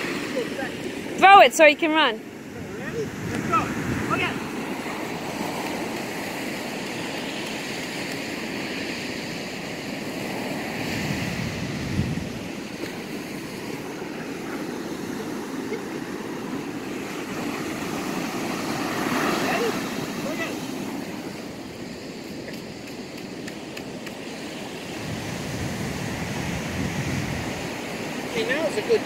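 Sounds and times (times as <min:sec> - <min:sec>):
ocean surf breaking: 0:00.0 - 0:29.0
wind on microphone: 0:02.2 - 0:28.9.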